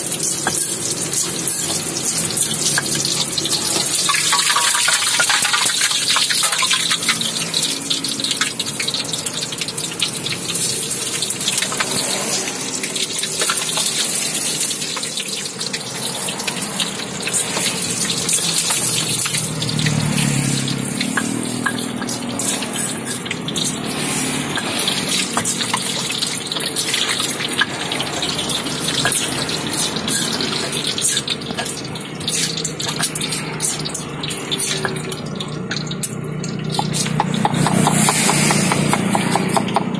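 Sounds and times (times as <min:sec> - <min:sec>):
oil sizzling in a wok: 0:00.0 - 0:39.9.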